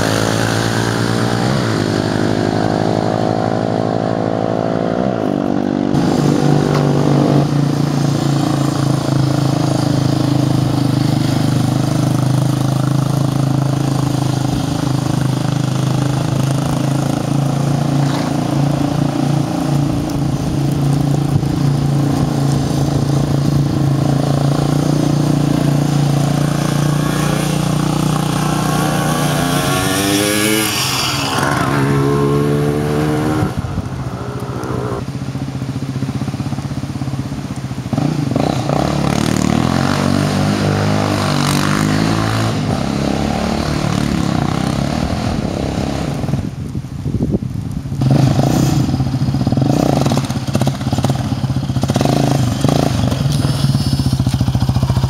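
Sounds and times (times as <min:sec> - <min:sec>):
quad engine revving: 0:00.0 - 0:35.1, 0:37.9 - 0:46.5, 0:48.0 - 0:55.0.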